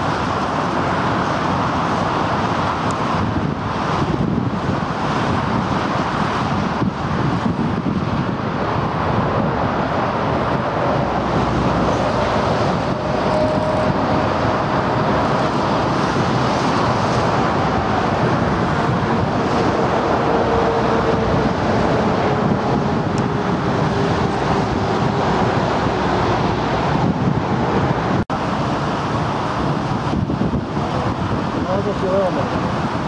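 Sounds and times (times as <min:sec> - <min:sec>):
jet engines rushing with whine: 0:00.0 - 0:33.0.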